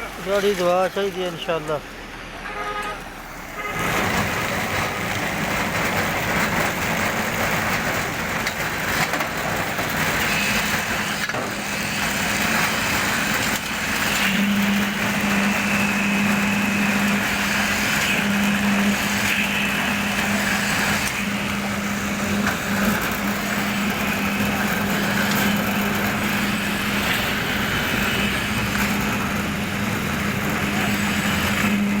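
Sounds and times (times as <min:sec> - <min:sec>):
concrete vibrator humming: 0:03.2 - 0:32.0.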